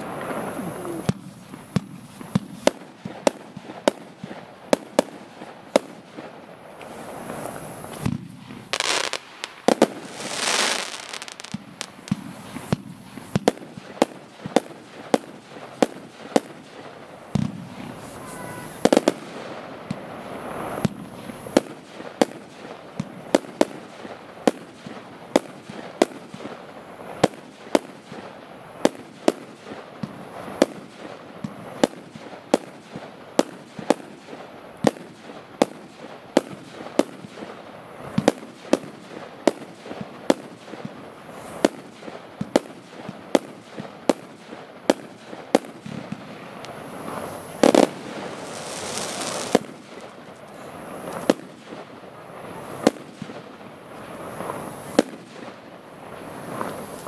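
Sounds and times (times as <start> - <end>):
fireworks bangs: 0.0 - 57.0
fireworks rushing burst: 0.0 - 57.0.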